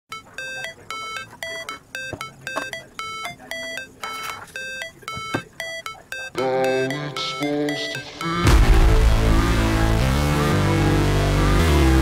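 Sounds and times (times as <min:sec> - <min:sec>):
beeping synth electronic music: 0:00.1 - 0:12.0.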